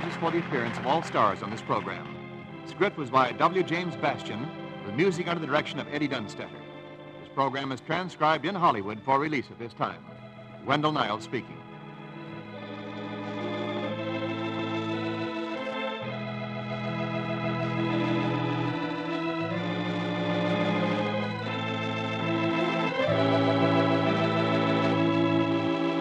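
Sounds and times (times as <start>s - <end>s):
organ playing held chords: 0.0s - 26.0s.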